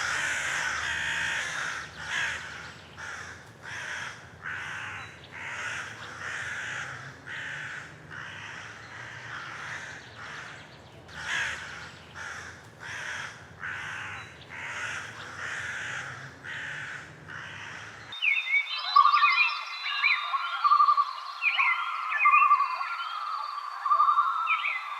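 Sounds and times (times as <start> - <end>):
bird harsh raspy calls: 0.0 - 24.9.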